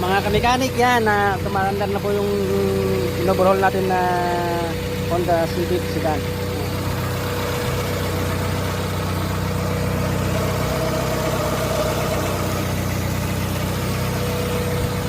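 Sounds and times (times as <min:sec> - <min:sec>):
car engine idling with whine: 0:00.0 - 0:15.0.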